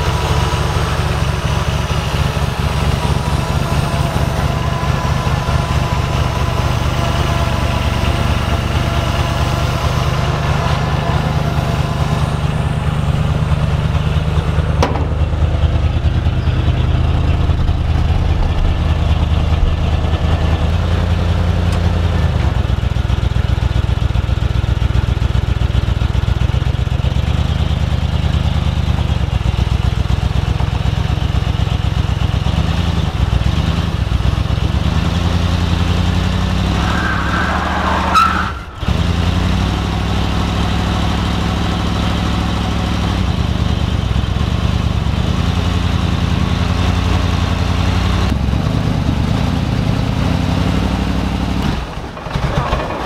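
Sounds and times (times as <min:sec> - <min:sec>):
engine running at low revs: 0:00.0 - 0:37.0, 0:37.8 - 0:53.0.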